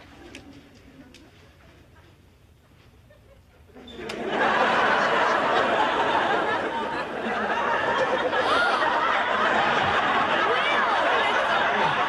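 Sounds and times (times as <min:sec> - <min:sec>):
crowd laughing and chattering: 0:00.0 - 0:12.0.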